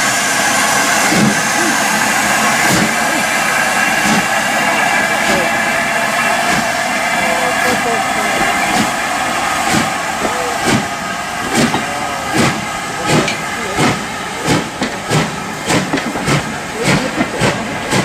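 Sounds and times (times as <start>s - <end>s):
steam hissing: 0.0s - 18.0s
steam locomotive knocking beat: 0.0s - 18.0s.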